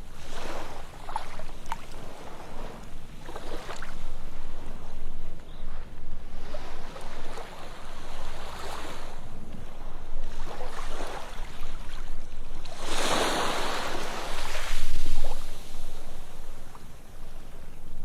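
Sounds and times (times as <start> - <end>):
waves washing onto sandy beach: 0.0 - 18.0.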